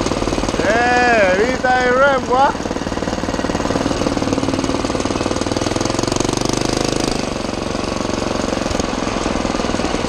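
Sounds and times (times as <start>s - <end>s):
motorized bicycle engine running: 0.0s - 10.0s.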